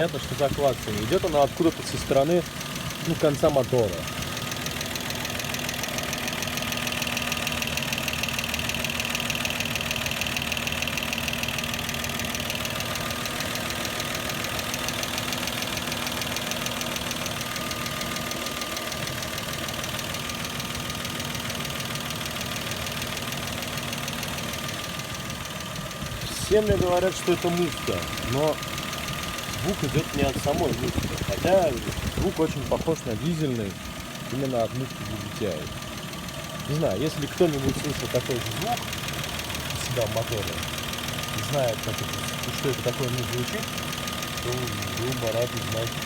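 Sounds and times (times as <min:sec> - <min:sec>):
car engine running: 0:00.0 - 0:46.0
rapid engine clacking: 0:00.0 - 0:46.0.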